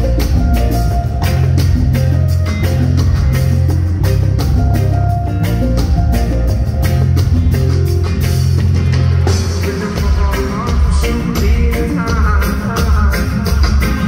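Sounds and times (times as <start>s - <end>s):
reggae band playing live: 0.0s - 14.0s.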